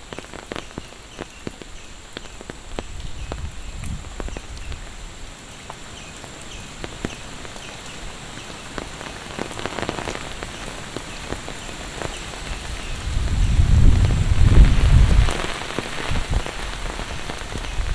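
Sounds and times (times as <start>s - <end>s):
raindrops ticking sharply: 0.0s - 17.9s
steady rain falling: 0.0s - 17.9s.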